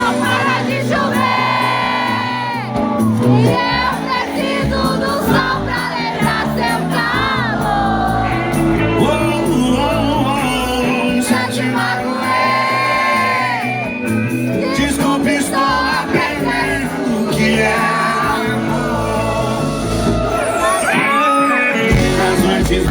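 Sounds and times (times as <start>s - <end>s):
crowd singing and shouting: 0.0s - 22.9s
live band with singer: 0.0s - 22.9s.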